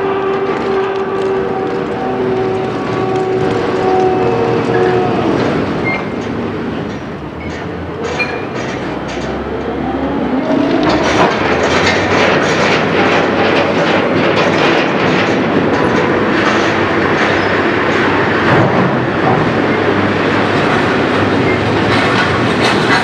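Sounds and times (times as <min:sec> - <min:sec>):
crane clattering and rattling: 0:00.3 - 0:23.0.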